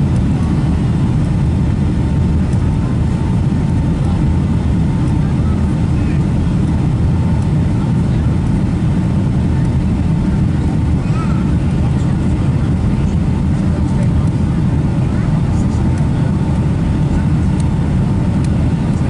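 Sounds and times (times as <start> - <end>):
airplane cabin roar: 0.0 - 19.0.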